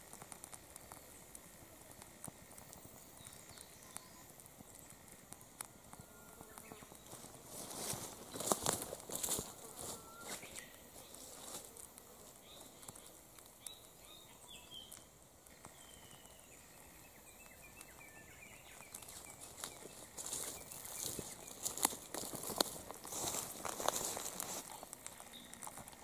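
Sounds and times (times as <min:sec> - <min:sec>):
faint chirps: 0:00.0 - 0:26.0
rubber crackling in flame: 0:00.0 - 0:26.0.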